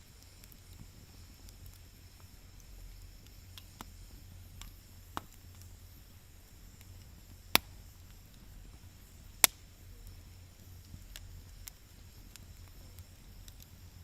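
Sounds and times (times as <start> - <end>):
wood fire crackling: 0.0 - 14.0
fire sharp loud snaps: 0.2 - 6.1, 6.7 - 13.8.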